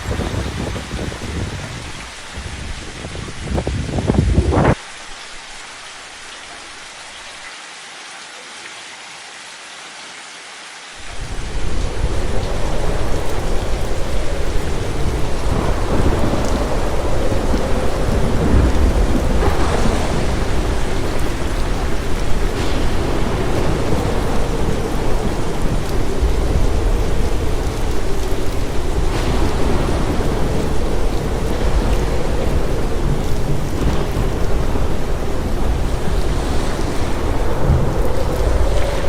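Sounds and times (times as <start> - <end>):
rushing noise with deep rumble: 0.0 - 4.8, 11.0 - 39.0
storm hiss: 0.0 - 7.5, 10.9 - 39.0.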